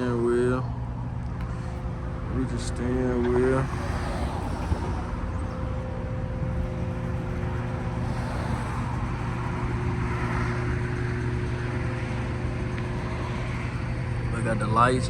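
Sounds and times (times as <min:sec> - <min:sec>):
outdoor noise: 0:00.0 - 0:15.0
vehicle engine idling: 0:00.0 - 0:15.0.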